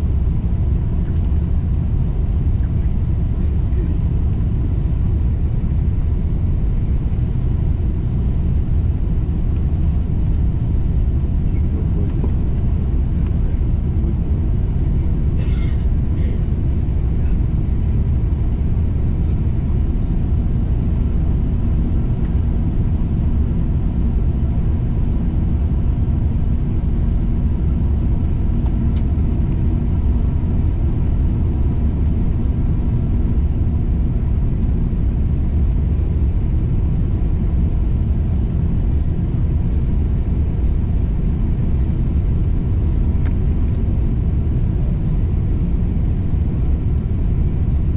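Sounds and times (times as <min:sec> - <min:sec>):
airliner engines and airflow rumble: 0:00.0 - 0:47.9.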